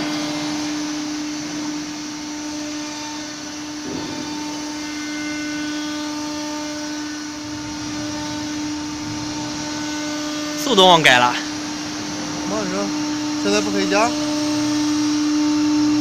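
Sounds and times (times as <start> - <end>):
machine whine: 0.0 - 16.0.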